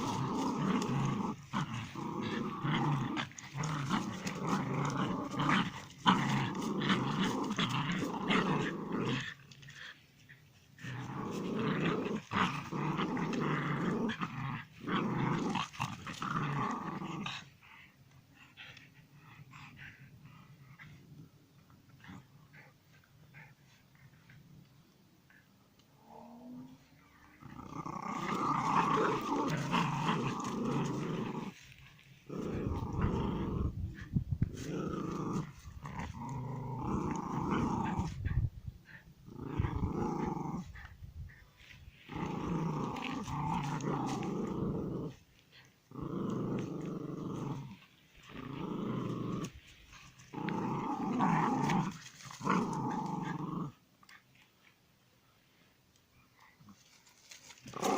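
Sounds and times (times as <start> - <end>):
dog growling: 0.0 - 24.6, 25.3 - 53.8.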